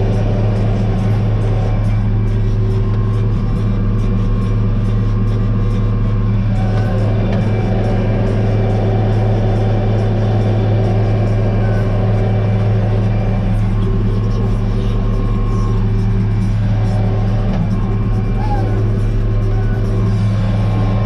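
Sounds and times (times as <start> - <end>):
tractor engine humming: 0.0 - 21.0.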